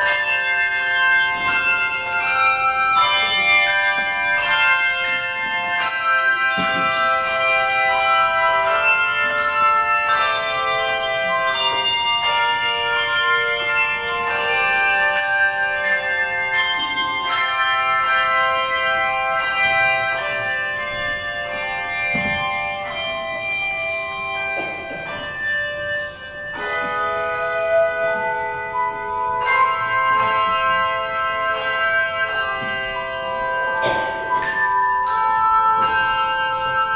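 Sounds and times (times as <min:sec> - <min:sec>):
handbell choir ringing a hymn: 0:00.0 - 0:36.9.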